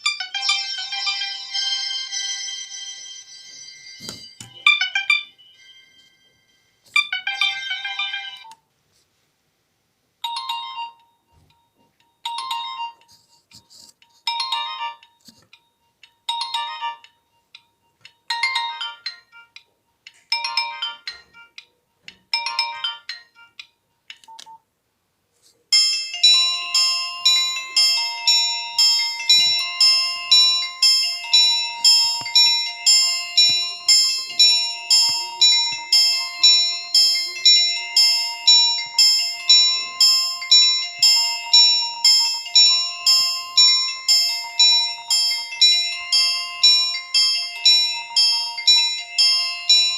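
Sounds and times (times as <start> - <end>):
mobile phone ringtones: 0.0 - 8.6, 10.2 - 19.6, 20.2 - 21.6, 22.3 - 24.6, 25.7 - 49.9.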